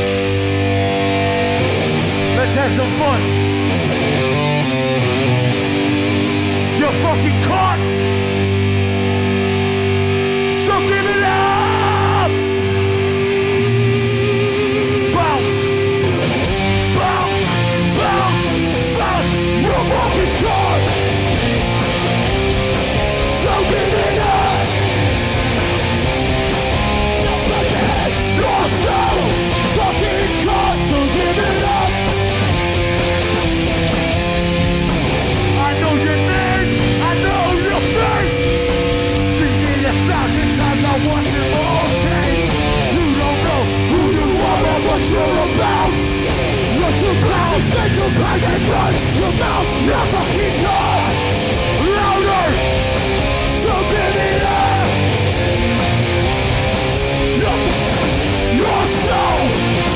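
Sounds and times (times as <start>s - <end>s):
distorted electric guitars: 0.0s - 59.9s
punk band playing live: 0.0s - 59.9s.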